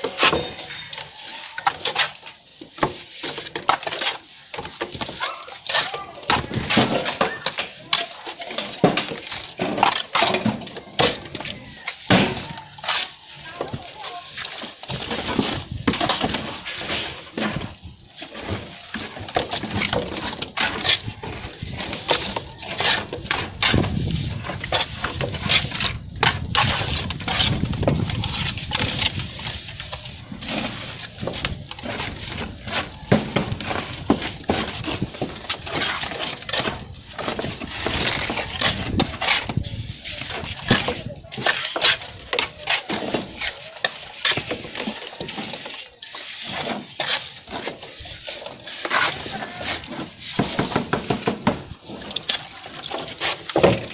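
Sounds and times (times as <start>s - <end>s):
trowel scraping mortar: 0.0s - 53.9s.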